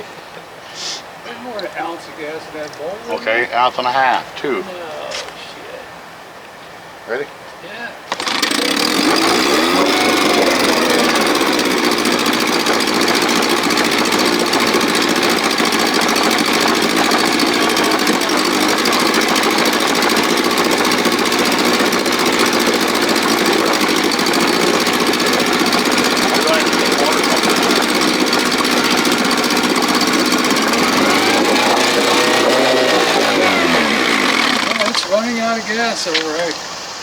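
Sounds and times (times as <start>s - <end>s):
outboard motor running: 2.6s - 4.2s, 8.1s - 36.5s.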